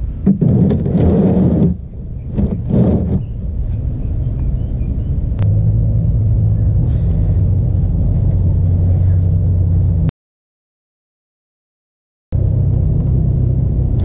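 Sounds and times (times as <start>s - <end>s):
steady low rumble: 0.0s - 10.1s, 12.3s - 14.0s.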